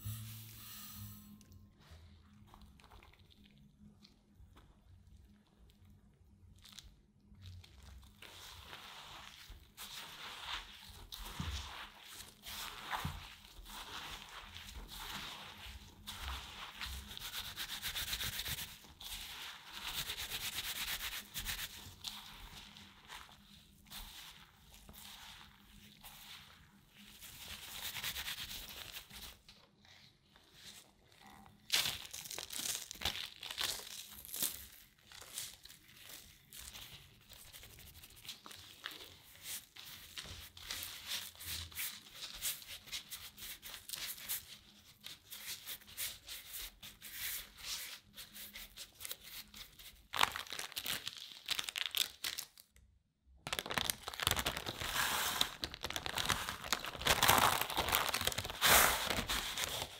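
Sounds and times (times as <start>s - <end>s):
hands rubbing crumb mixture: 6.6s - 29.6s, 31.7s - 52.5s, 53.5s - 59.9s
baking paper crinkling: 7.5s - 29.5s, 31.6s - 52.7s, 53.5s - 59.9s.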